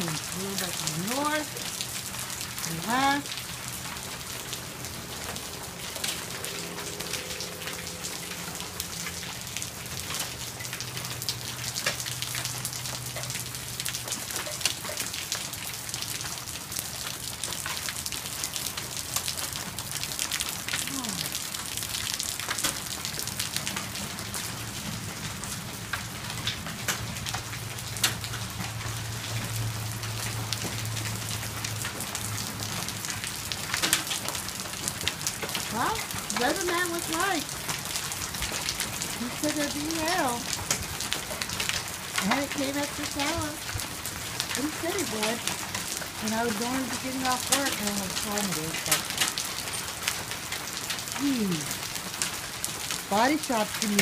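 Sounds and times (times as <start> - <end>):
hailstones on roof and ground: 9.2 - 54.0.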